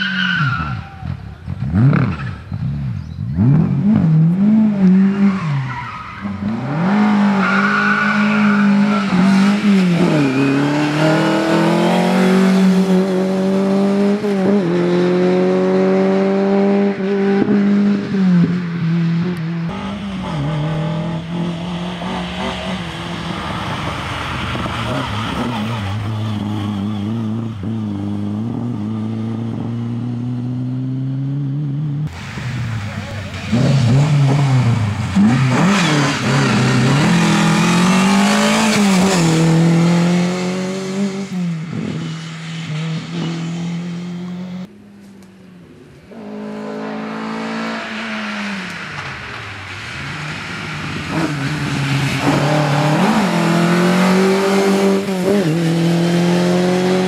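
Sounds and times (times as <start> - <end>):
rally car engine revving: 0.2 - 44.7, 46.1 - 57.0.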